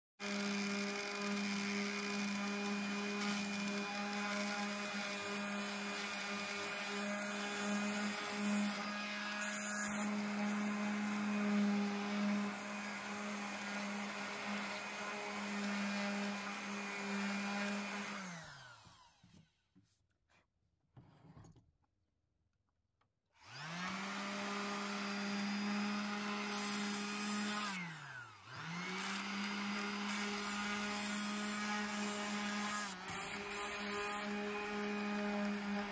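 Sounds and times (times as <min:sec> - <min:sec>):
electric sheet sander humming: 0:00.2 - 0:19.3, 0:23.4 - 0:35.9.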